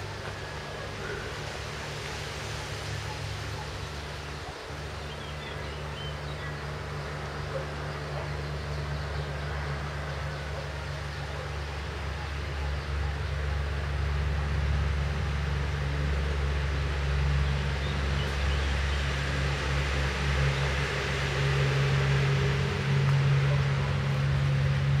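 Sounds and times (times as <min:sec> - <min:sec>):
road noise hiss: 0:00.0 - 0:25.0
vehicle engine hum: 0:00.0 - 0:25.0.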